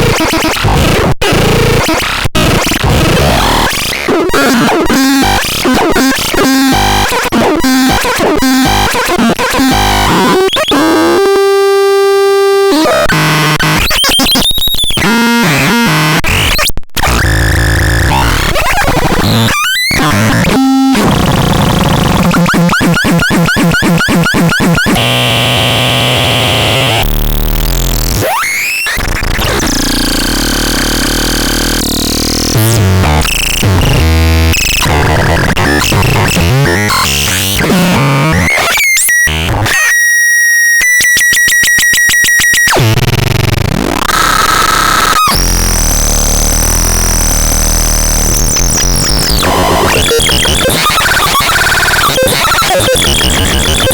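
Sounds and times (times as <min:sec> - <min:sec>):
harsh electronic noise: 0:00.0 - 0:39.9, 0:41.6 - 0:53.9.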